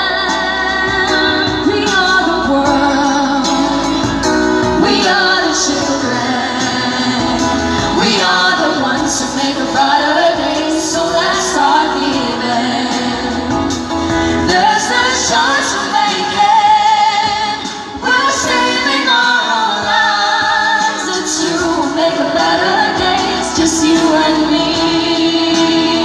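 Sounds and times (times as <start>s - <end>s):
musical accompaniment: 0.0s - 26.0s
woman singing pop into microphone: 0.0s - 26.0s.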